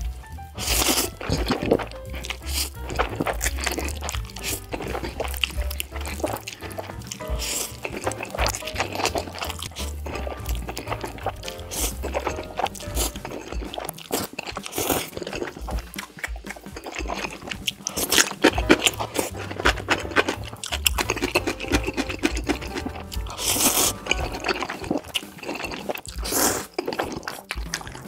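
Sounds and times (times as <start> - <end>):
background music: 0.0 - 28.0
crunching: 0.0 - 28.0
noodles slurped and chewed: 0.0 - 28.0.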